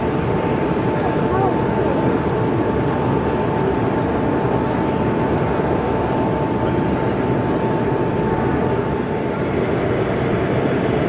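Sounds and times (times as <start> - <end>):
indistinct crowd chatter: 0.0 - 11.0.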